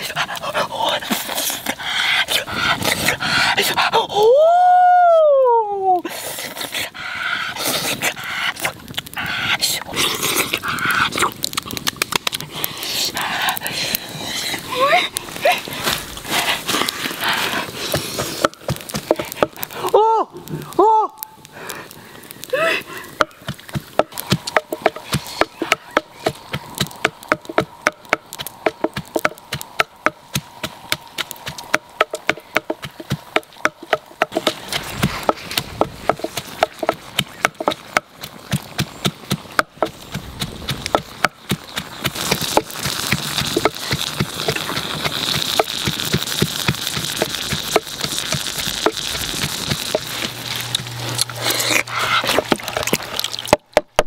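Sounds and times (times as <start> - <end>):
wood fire crackling: 0.0 - 54.0
food sizzling on hot stone: 6.0 - 54.0.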